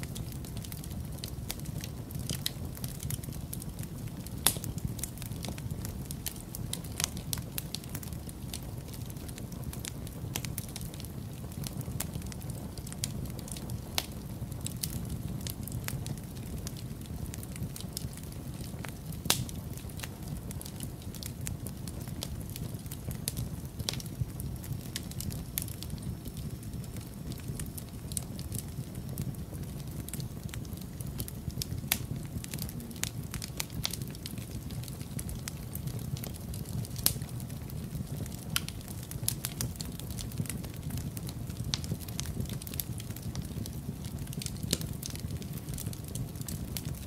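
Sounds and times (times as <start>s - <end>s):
fire pops and snaps: 0.0s - 47.0s
low fire rumble: 0.0s - 47.0s
wood fire crackling: 0.0s - 47.0s.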